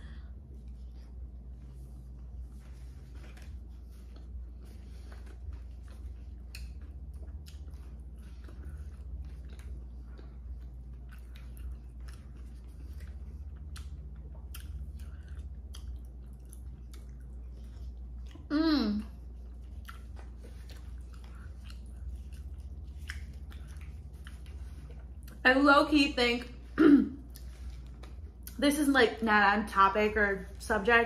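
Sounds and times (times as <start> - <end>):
chewing and wet mouth sounds: 0.0 - 31.0
steady low hum: 0.0 - 31.0.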